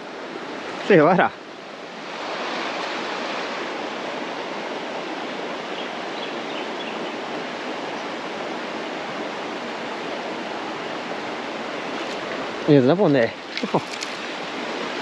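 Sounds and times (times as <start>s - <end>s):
creek water flowing over rocks: 0.0s - 15.0s.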